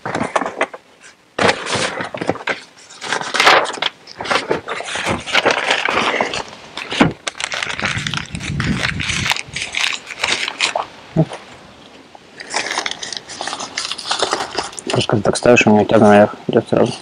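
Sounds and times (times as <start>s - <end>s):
steel wire scraping and crackling: 0.0s - 17.0s.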